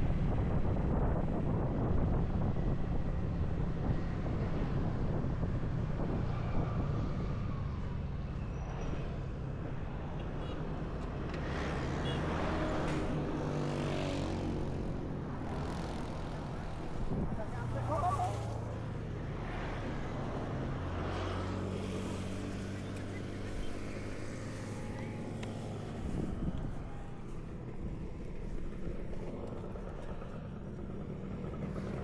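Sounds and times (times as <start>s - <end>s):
road noise: 0.0s - 32.0s.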